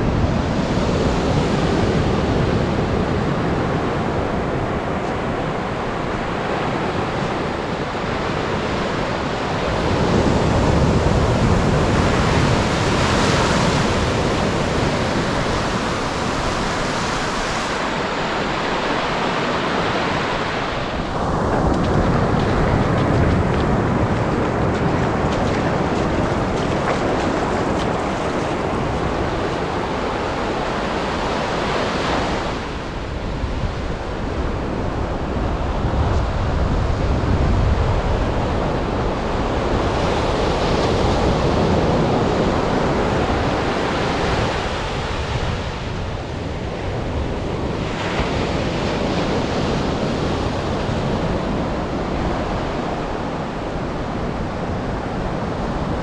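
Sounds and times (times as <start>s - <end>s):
waves breaking on beach: 0.0s - 56.0s
wind rumbling on microphone: 0.0s - 56.0s.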